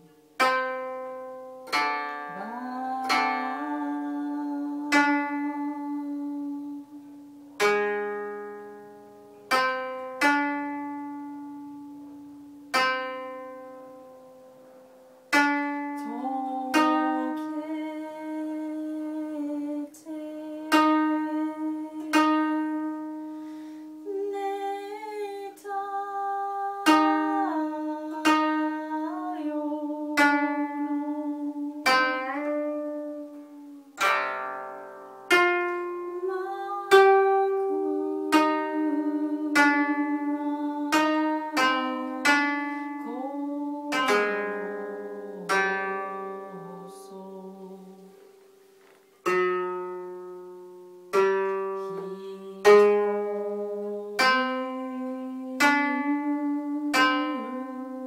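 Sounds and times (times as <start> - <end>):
koto plucked notes: 0.0 - 58.0.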